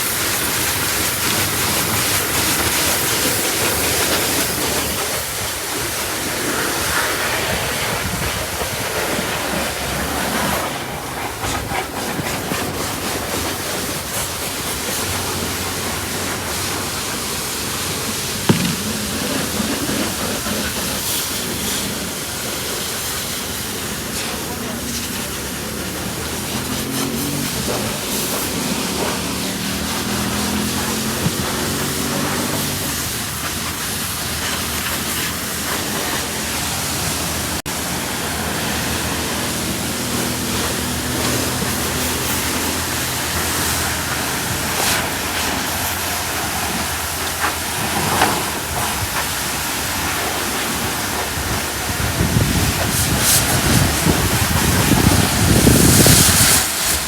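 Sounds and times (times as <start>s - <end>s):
water spraying hiss: 0.0s - 57.0s.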